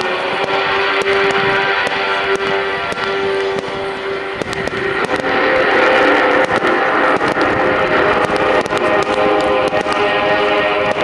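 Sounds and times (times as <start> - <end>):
fireworks cracking and popping: 0.0 - 11.0
steady held tones: 0.0 - 11.0.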